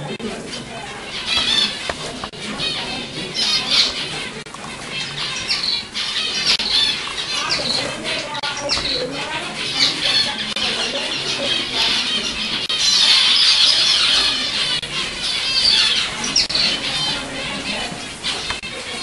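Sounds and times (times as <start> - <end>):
finches chattering: 0.0 - 19.0.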